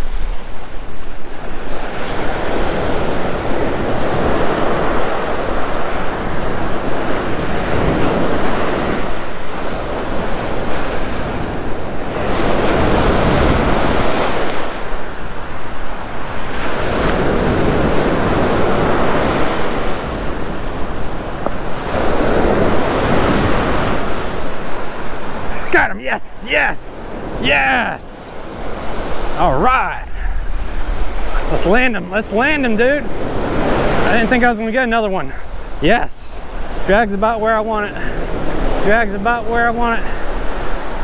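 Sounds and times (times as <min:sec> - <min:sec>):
wind buffeting microphone: 0:00.0 - 0:25.9, 0:27.0 - 0:35.8, 0:36.4 - 0:41.0
ocean surf breaking on beach: 0:00.0 - 0:41.0.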